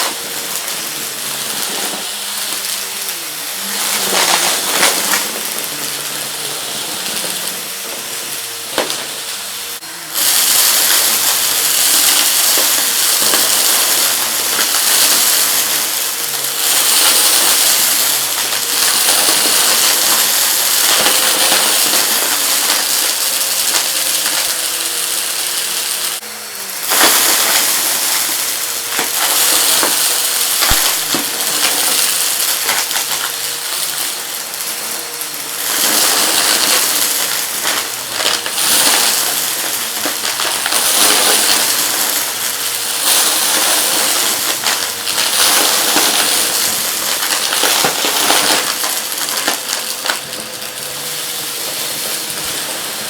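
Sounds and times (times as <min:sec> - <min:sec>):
vacuum cleaner running: 0:00.0 - 0:53.0
debris rattling in vacuum tube: 0:03.6 - 0:09.2, 0:10.2 - 0:26.2, 0:26.8 - 0:53.0.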